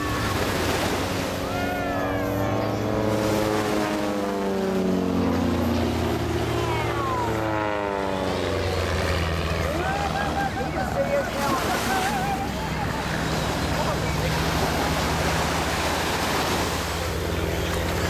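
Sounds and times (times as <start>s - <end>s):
propeller plane engines droning: 0.0s - 18.0s.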